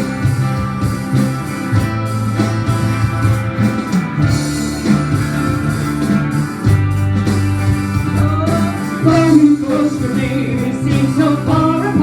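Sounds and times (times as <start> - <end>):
bass guitar: 0.0 - 12.0
drums keeping a steady beat: 0.0 - 12.0
electric guitar: 0.0 - 12.0.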